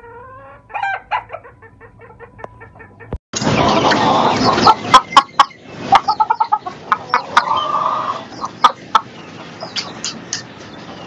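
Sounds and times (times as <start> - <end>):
hen clucking: 0.0 - 11.0.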